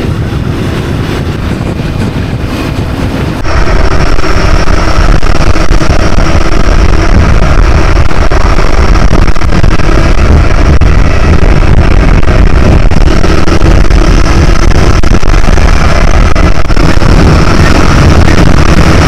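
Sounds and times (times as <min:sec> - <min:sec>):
motorcycle engine drone: 0:00.0 - 0:19.0
wind and road noise: 0:00.0 - 0:19.0.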